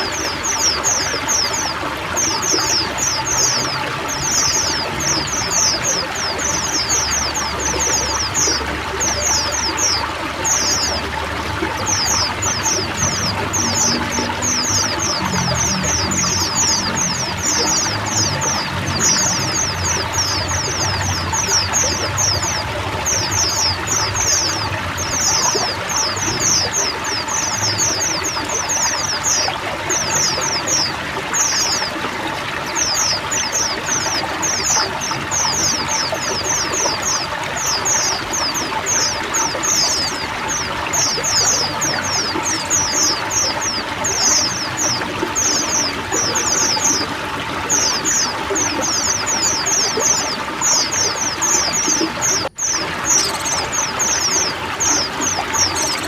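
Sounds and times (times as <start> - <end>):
birds twittering: 0.0 - 56.0
water trickling: 0.0 - 56.0.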